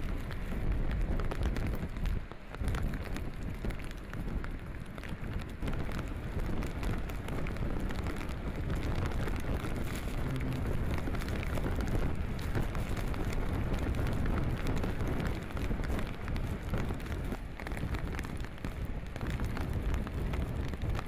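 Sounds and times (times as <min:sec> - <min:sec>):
rain ticking: 0:00.0 - 0:21.0
wind buffeting microphone: 0:00.0 - 0:21.0
wind roar: 0:00.0 - 0:21.0.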